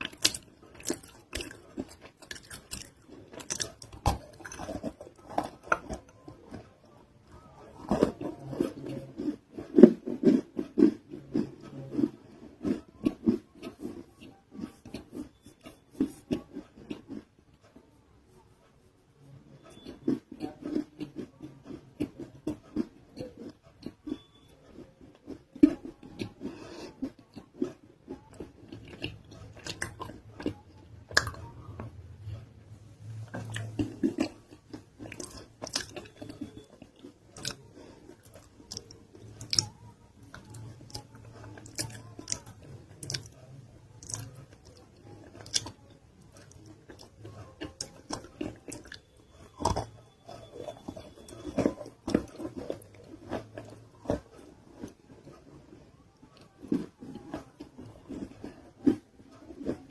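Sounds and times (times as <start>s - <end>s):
chewing and crunching clay: 0.0s - 59.9s.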